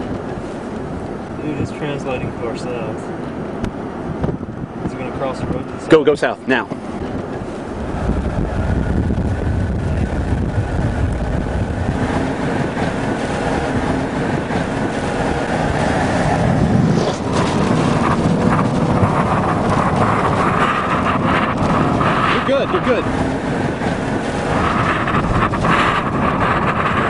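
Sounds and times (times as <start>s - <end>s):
strong wind buffeting microphone: 0.0s - 27.0s
vehicle engine and road noise: 0.0s - 27.0s.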